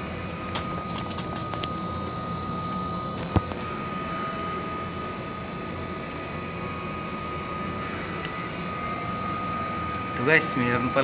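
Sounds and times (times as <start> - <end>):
high-pitched whine: 0.0 - 11.0
machine drone: 0.0 - 11.0.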